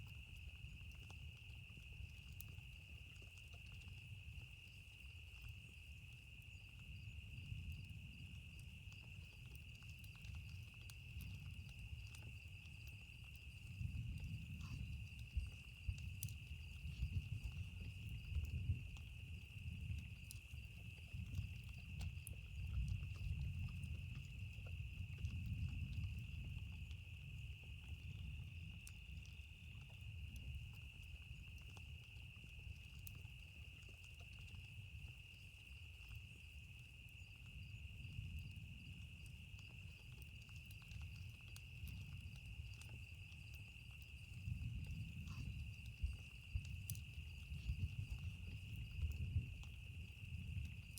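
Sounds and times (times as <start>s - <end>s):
campfire crackling: 0.0s - 50.9s.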